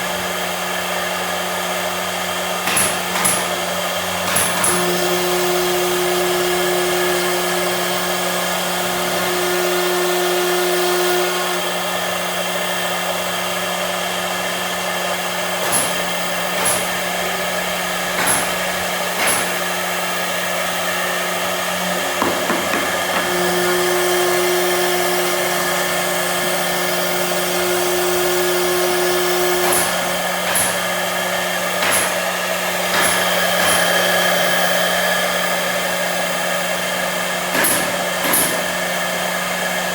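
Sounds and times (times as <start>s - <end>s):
machine motor hum: 2.5s - 39.9s.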